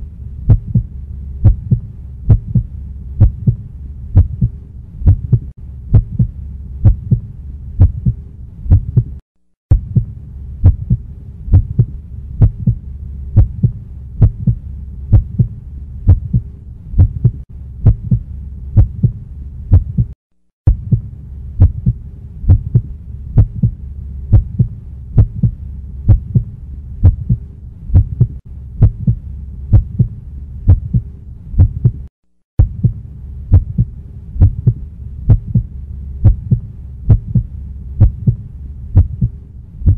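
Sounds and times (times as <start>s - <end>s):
low hum: 0.0s - 39.9s
low thumps pulsing: 0.4s - 39.9s.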